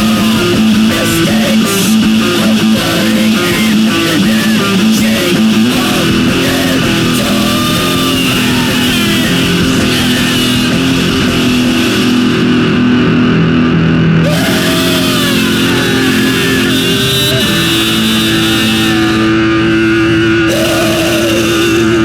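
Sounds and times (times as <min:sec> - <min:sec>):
dense wash of noise: 0:00.0 - 0:22.0
distorted guitar chords: 0:00.0 - 0:22.0.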